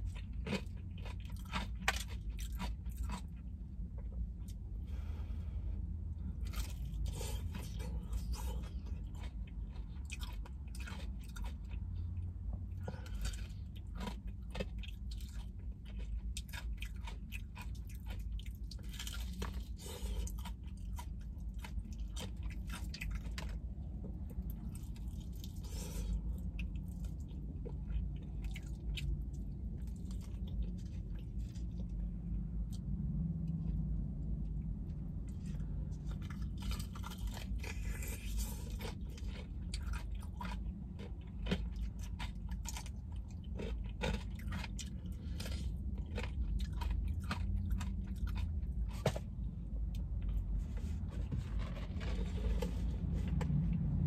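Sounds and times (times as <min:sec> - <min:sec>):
chewing crispy fried chicken: 0:00.0 - 0:05.1, 0:05.8 - 0:54.0.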